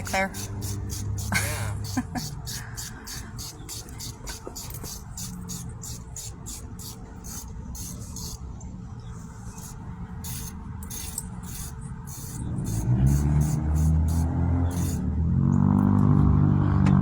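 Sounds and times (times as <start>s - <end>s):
rhythmic rasping strokes: 0.0s - 8.4s, 9.2s - 15.0s.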